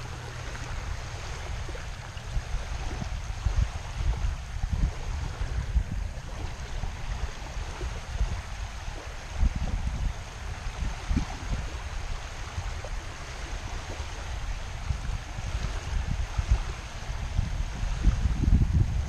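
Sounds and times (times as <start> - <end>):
small waves lapping on shore: 0.0 - 19.0
wind rumbling on microphone: 0.0 - 19.0.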